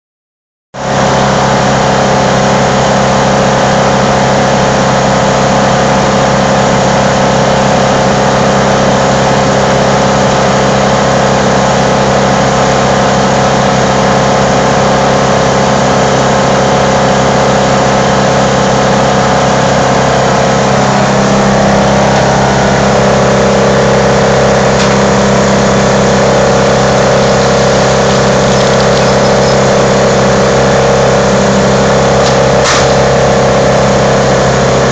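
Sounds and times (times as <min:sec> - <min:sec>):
wood chipper engine running: 0:00.8 - 0:34.9.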